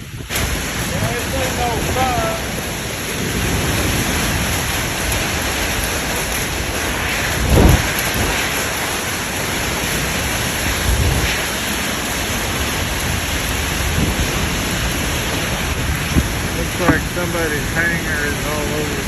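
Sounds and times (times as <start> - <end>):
heavy rain: 0.0 - 19.0
thunder rumbling: 0.0 - 19.0
wind: 0.0 - 19.0.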